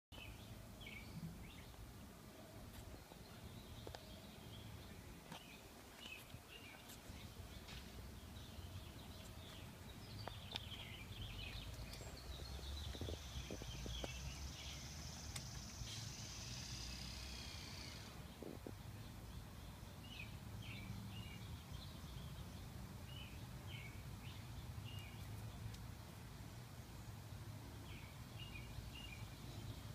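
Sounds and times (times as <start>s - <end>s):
small birds chirping: 0.1s - 29.9s.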